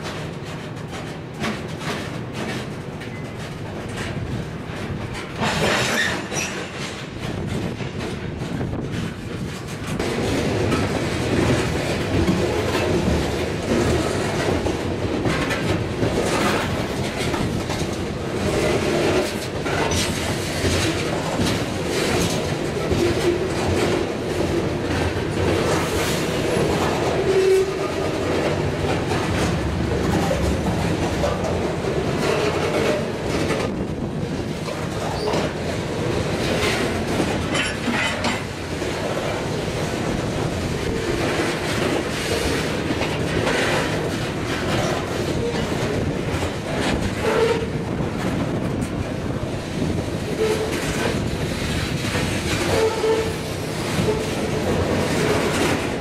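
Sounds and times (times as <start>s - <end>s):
freight train rumble: 0.0s - 56.0s
wheels clattering over rails: 0.0s - 56.0s.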